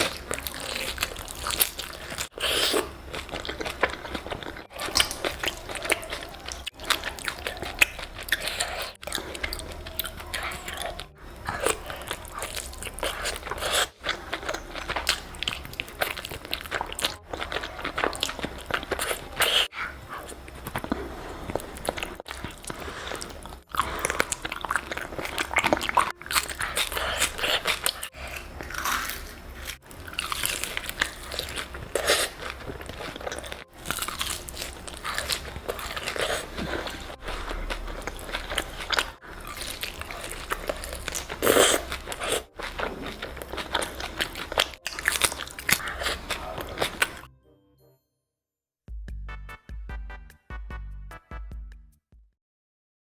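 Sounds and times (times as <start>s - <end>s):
crunchy bites and chewing: 0.0s - 47.3s.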